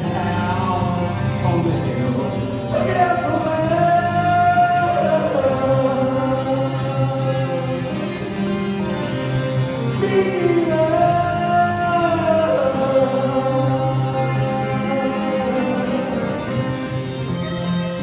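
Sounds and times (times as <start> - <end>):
man singing: 0.0 - 17.2
acoustic guitar strumming: 0.0 - 18.0.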